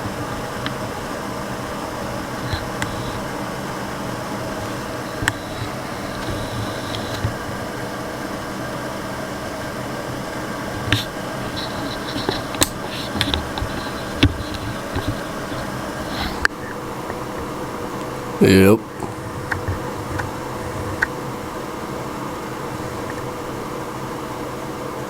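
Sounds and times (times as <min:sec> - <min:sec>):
electric fan whirring: 0:00.0 - 0:25.0.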